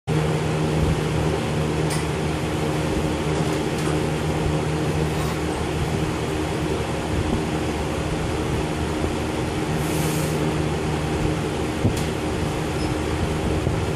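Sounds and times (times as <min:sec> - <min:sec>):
mechanical hum: 0:00.1 - 0:13.9.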